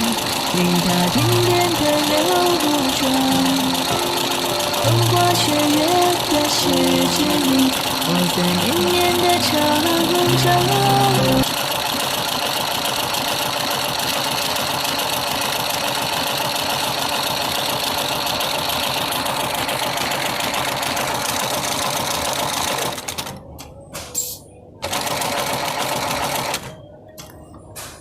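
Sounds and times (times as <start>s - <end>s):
sewing machine stitching: 0.0s - 23.3s, 24.8s - 26.7s.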